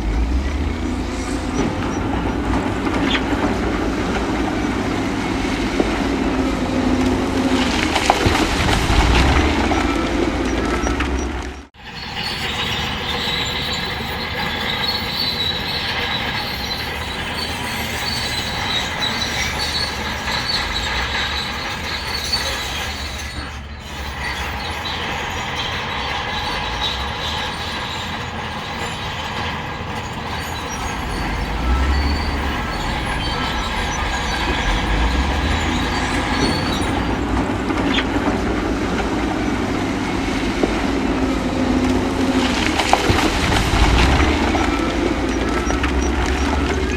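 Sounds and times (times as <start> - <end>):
diesel engine rumble: 0.0 - 46.9
steel tracks squealing and clattering: 0.0 - 46.9.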